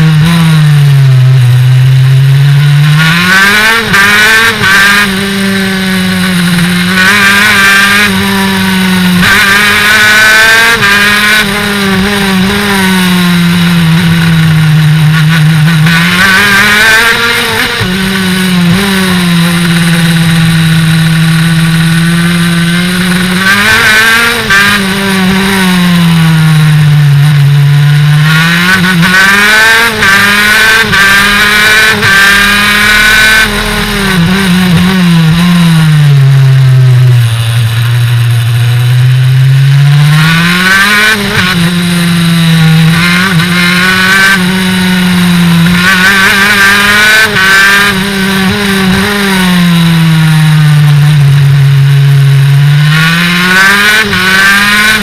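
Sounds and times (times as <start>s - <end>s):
kart engine racing: 0.0s - 55.0s.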